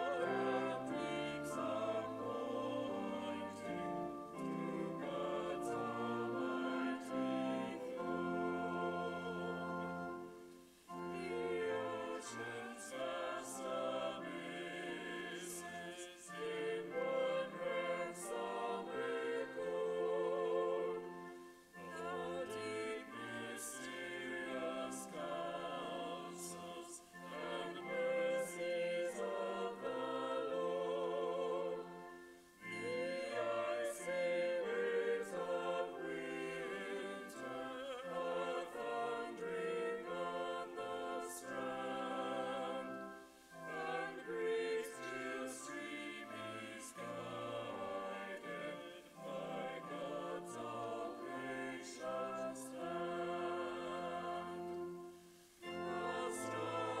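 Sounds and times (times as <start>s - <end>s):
small choir singing a hymn: 0.0s - 57.0s.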